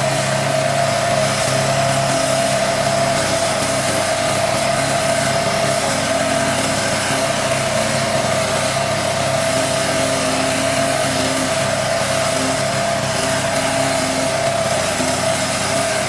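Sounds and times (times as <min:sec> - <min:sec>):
lawn mower engine humming: 0:00.0 - 0:16.0.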